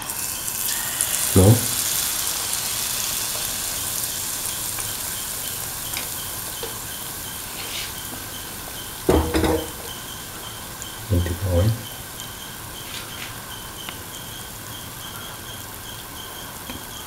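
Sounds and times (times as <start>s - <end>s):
batter sizzling in oil: 0.0s - 17.0s.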